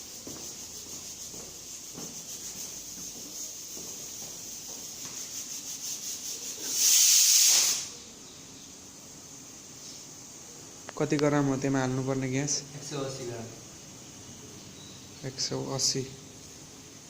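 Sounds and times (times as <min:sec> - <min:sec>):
refrigerant gas hissing: 0:00.0 - 0:17.0.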